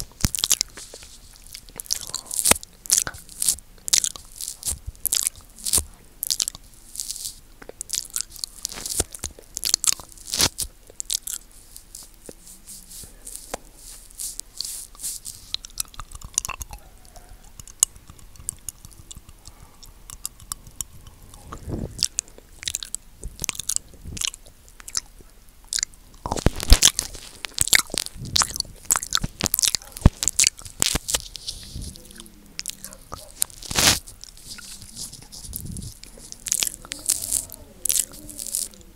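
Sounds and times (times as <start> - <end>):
lips smacking: 0.0 - 38.9
tongue licking microphone: 0.0 - 38.9.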